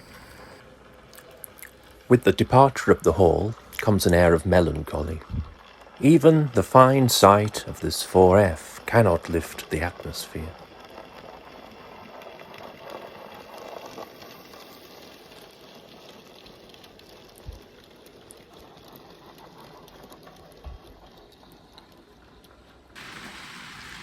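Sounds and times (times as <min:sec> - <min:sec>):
model train wheels and motor rattling: 0:00.0 - 0:24.0.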